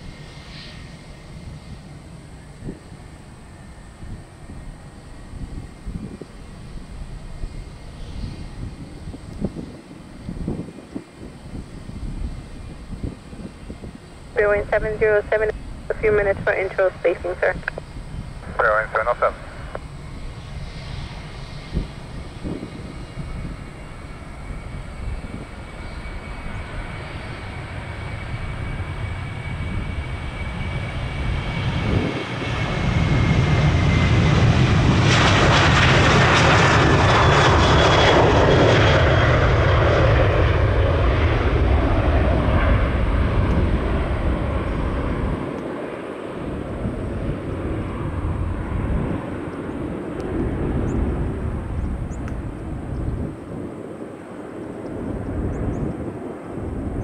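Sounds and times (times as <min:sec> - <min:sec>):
jet airliner engines passing: 0:00.0 - 0:57.0.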